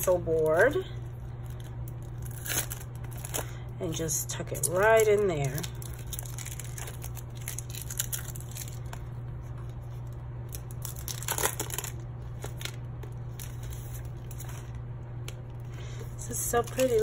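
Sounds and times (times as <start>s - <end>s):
steady low hum: 0.0s - 17.0s
plastic packaging crinkling: 0.4s - 3.7s, 4.5s - 17.0s.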